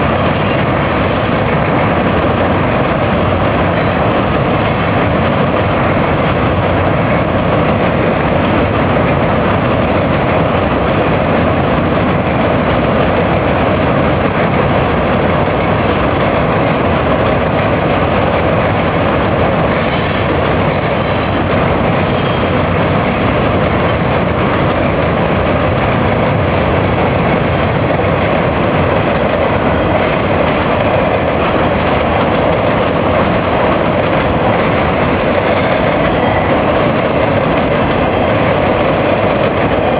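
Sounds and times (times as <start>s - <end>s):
train rumbling over bridge: 0.0s - 39.9s.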